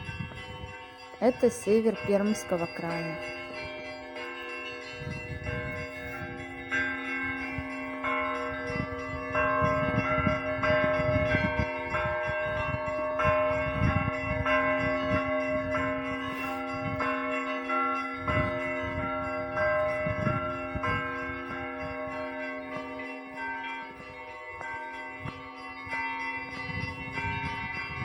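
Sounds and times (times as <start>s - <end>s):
large bell humming: 0.0s - 28.0s
small church bells ringing: 0.0s - 28.0s.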